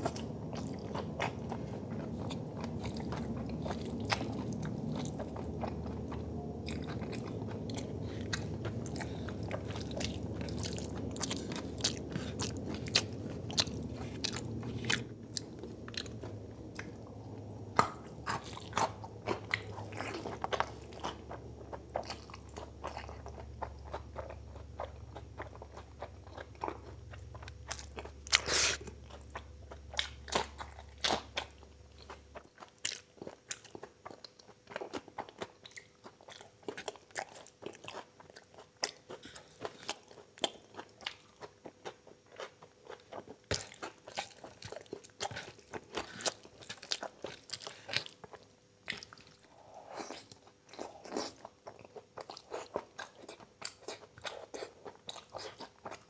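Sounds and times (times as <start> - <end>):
low background hum: 0.0 - 56.0
man chewing food: 0.0 - 56.0.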